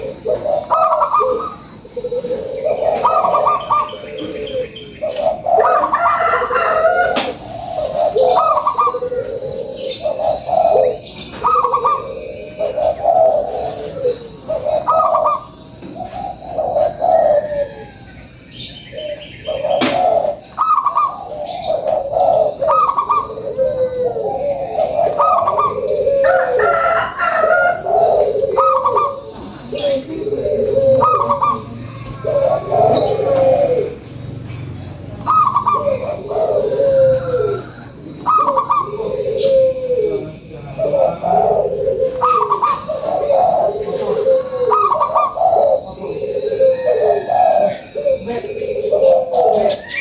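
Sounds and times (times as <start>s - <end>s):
dove cooing: 0.0s - 50.0s.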